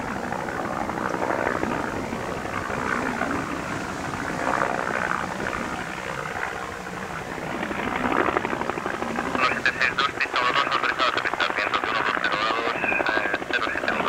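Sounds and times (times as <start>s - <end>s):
helicopter rotor chopping: 0.0s - 14.0s
turbine noise: 0.0s - 14.0s.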